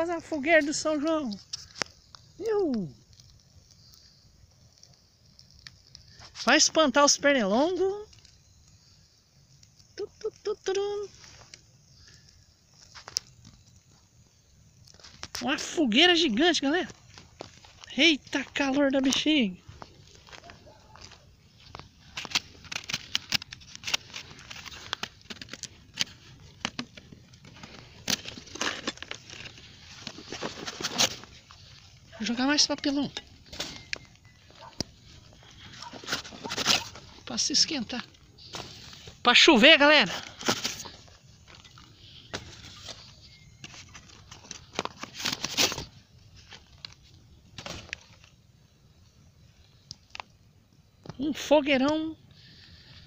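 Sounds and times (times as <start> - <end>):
bonfire crackling and popping: 0.0 - 53.0.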